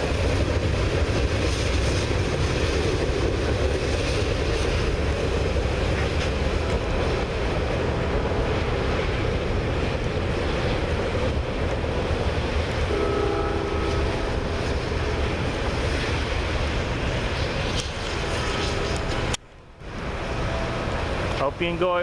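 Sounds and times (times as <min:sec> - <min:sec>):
freight train rumbling past: 0:00.0 - 0:22.0
rain: 0:00.0 - 0:22.0.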